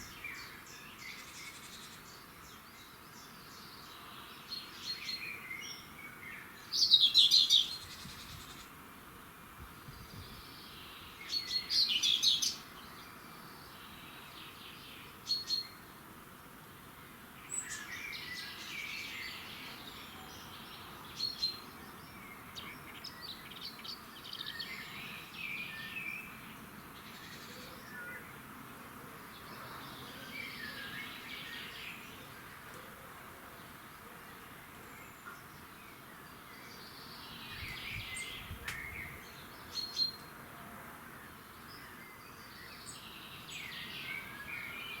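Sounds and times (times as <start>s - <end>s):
faint outdoor hiss: 0.0s - 45.0s
songbirds chirping and trilling: 0.0s - 45.0s.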